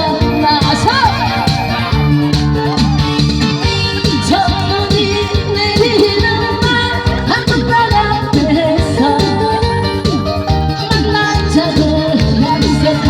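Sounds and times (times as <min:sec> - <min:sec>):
amplified backing track: 0:00.0 - 0:13.0
street singer singing: 0:00.0 - 0:13.0.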